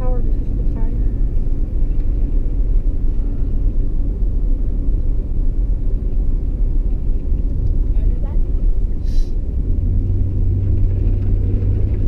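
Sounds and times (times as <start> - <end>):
truck driving on snowy road: 0.0 - 12.0.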